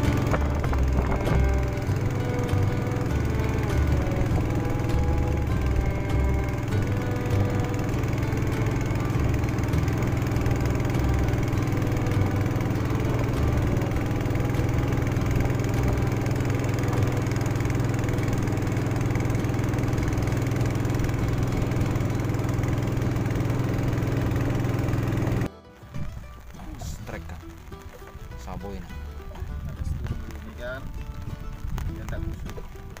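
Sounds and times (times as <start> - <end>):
boat engine droning: 0.0 - 26.7.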